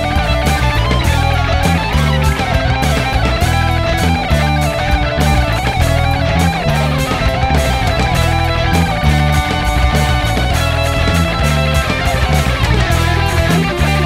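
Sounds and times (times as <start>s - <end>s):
bass guitar: 0.0s - 14.0s
bending lead guitar line: 0.0s - 14.0s
distorted electric guitars: 0.0s - 14.0s
steady drums: 0.0s - 14.0s.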